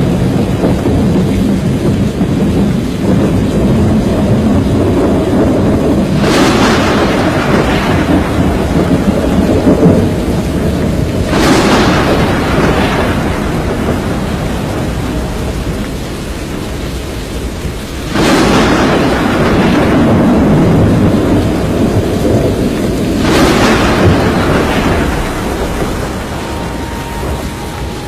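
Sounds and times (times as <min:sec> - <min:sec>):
heavy rain: 0:00.0 - 0:28.0
thunder rumbling: 0:00.0 - 0:28.0.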